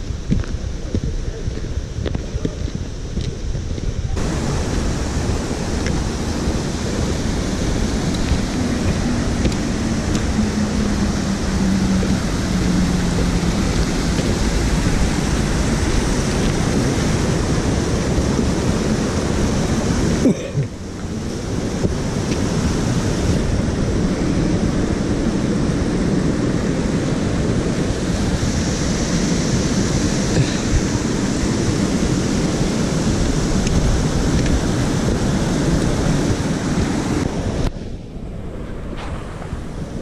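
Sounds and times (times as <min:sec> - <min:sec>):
stream running over rocks: 0:00.0 - 0:37.8
wind buffeting microphone: 0:00.0 - 0:40.0.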